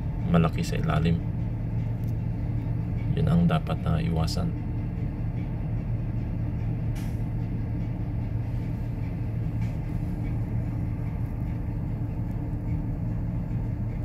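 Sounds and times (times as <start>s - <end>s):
ship engine low rumble: 0.0s - 14.0s.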